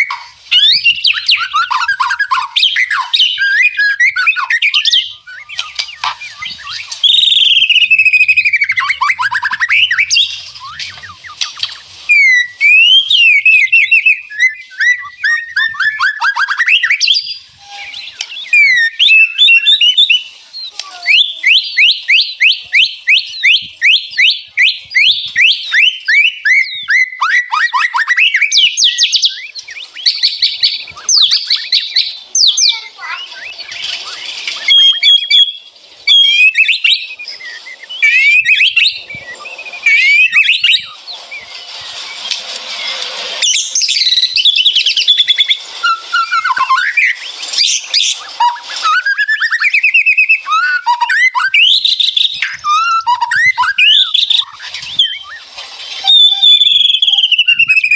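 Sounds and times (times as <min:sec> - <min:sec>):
bird singing whistled notes: 0:00.0 - 0:57.9
harsh rattling bird chatter: 0:00.0 - 0:57.9.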